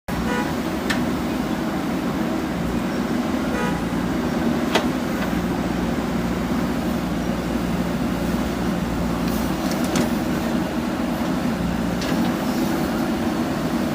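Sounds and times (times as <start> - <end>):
diesel engine running: 0.1 - 13.9.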